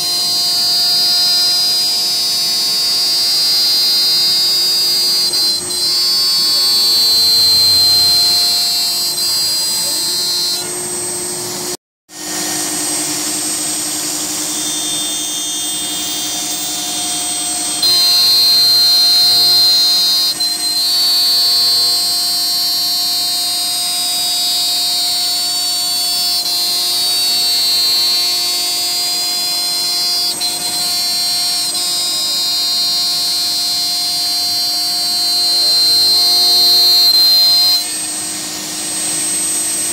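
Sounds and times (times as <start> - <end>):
bit milling plastic: 0.0 - 11.7, 14.6 - 39.9
router spindle whine: 0.0 - 39.9.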